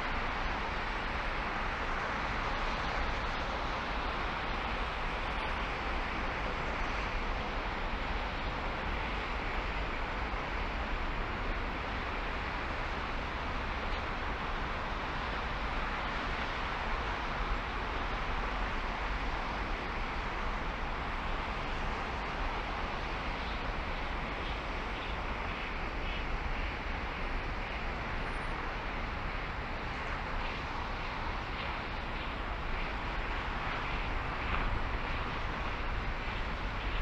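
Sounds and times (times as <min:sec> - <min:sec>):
car road and wind noise: 0:00.0 - 0:37.0.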